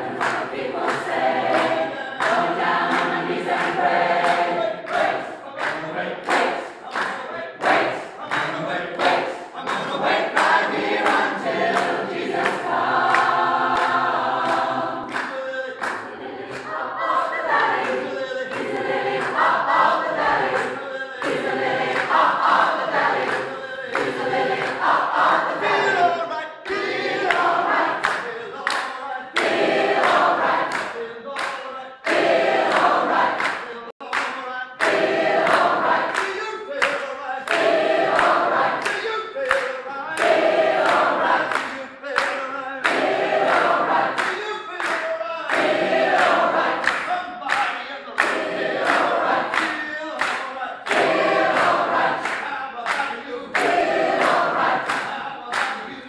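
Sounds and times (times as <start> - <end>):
choir singing a cappella: 0.0 - 56.0
hand claps on the beat: 0.0 - 56.0.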